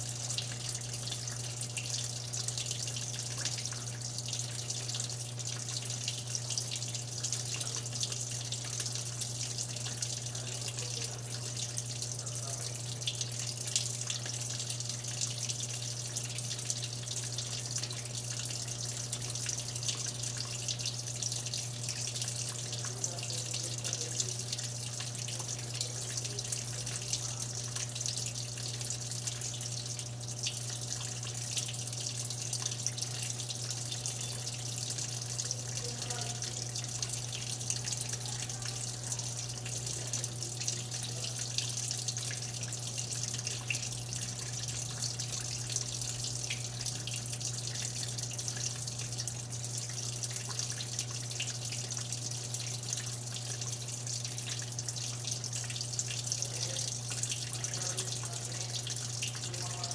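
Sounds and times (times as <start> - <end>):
washing machine low hum: 0.0 - 59.9
water running into washing machine: 0.0 - 59.9.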